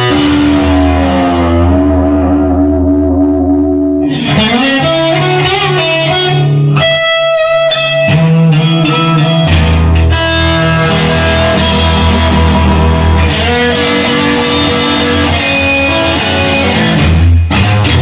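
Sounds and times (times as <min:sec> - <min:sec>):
instrumental guitar music: 0:00.0 - 0:18.0.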